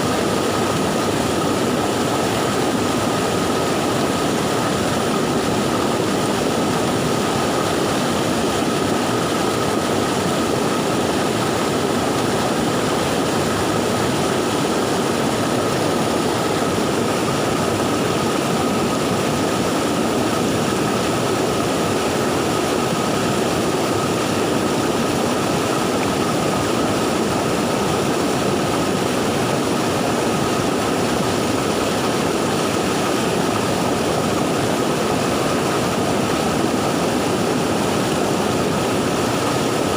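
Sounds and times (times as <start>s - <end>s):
river water roaring: 0.0s - 39.9s.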